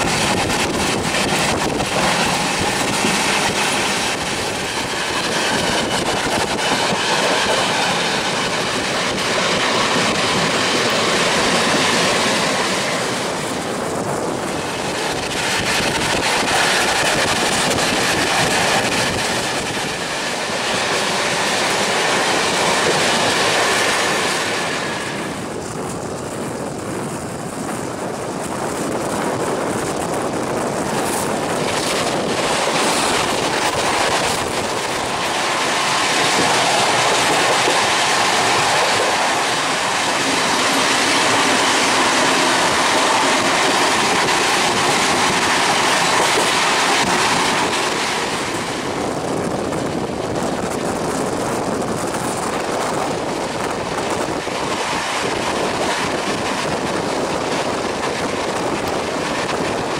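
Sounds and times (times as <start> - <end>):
clickety-clack over rail joints: 0.0 - 59.9
passing train alongside: 0.0 - 59.9
train wheels rushing on rails: 0.0 - 59.9.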